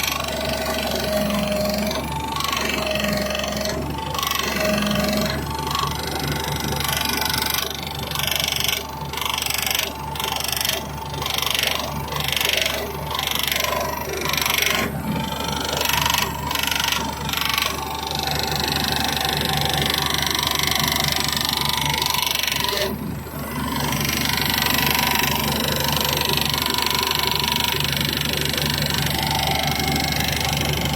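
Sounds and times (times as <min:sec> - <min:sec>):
hydraulic pump whining: 0:00.0 - 0:30.9.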